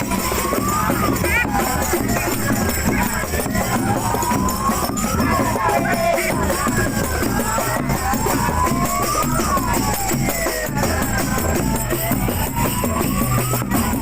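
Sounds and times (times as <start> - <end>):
procession music with drums: 0.0 - 14.0
wailing rising and falling tone: 0.0 - 14.0.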